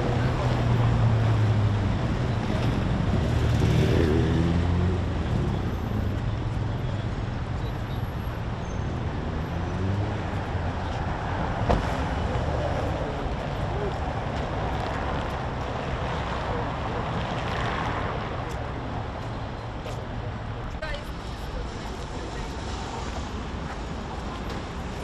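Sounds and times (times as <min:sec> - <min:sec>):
street noise: 0:00.0 - 0:25.0.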